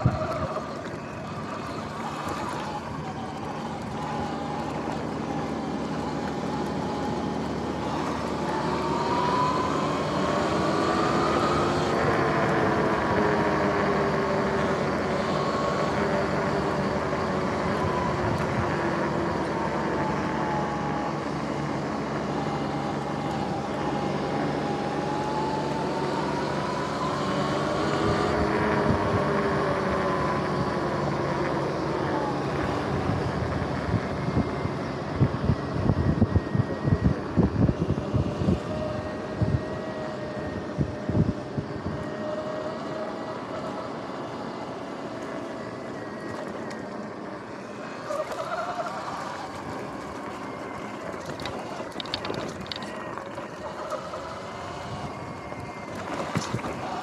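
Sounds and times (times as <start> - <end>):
electric motor whining: 0.0 - 57.0
wind and tyre noise: 0.0 - 57.0.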